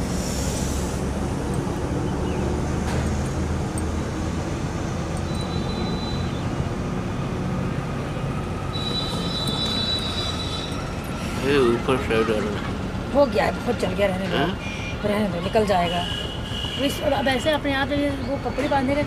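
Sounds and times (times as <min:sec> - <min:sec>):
passing vehicles rumbling: 0:00.0 - 0:19.0.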